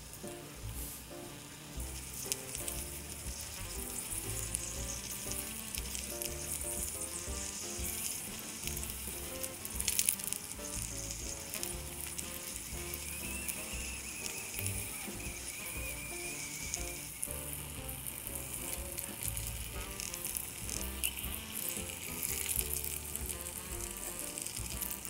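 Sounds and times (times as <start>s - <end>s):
fish sizzling in oil: 0.0s - 25.0s
soft background music: 0.0s - 25.0s.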